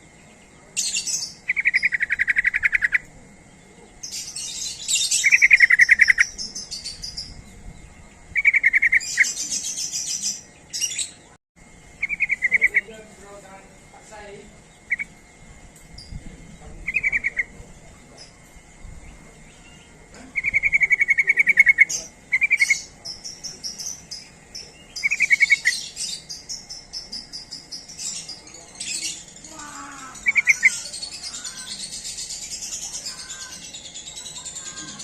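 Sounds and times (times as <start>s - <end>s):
high twittering chatter: 0.0s - 35.0s.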